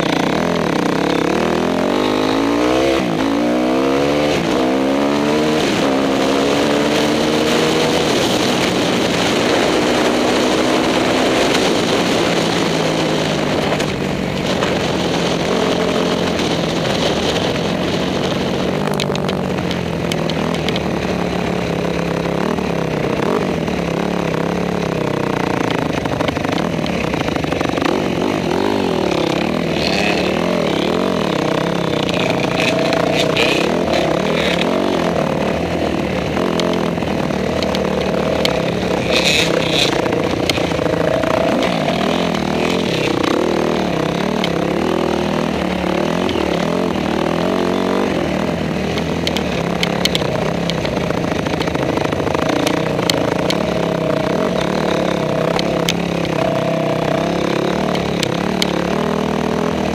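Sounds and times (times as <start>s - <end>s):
dirt bike engine: 0.0s - 59.9s.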